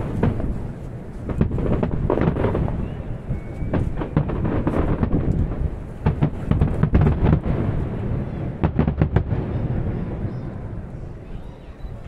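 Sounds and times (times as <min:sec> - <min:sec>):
firework bangs: 0:00.0 - 0:11.4.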